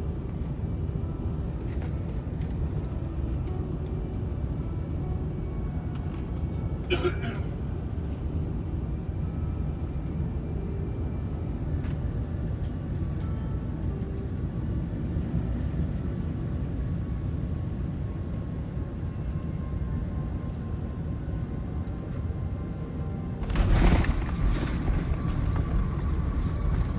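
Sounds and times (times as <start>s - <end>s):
airplane cabin rumble: 0.0s - 26.9s.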